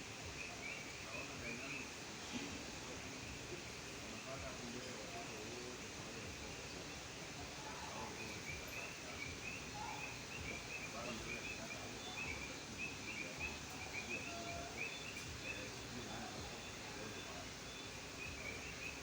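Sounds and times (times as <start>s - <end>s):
frogs calling: 0.0s - 19.0s
soft outdoor hiss: 0.0s - 19.0s.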